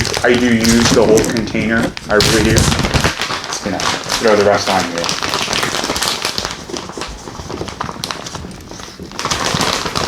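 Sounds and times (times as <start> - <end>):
shredded cheese package crackling: 0.0 - 10.0.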